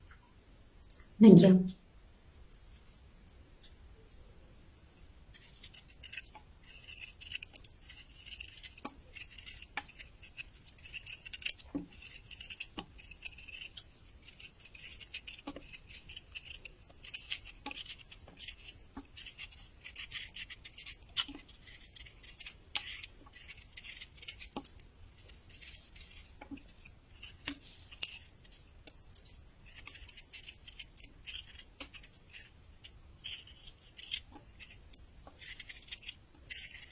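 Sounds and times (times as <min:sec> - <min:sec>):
crunching and chewing ginger: 0:05.3 - 0:36.9.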